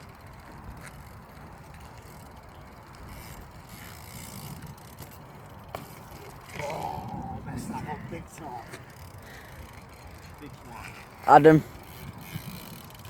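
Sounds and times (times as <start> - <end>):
bike freewheel ticking: 0.0 - 7.1, 8.2 - 13.0.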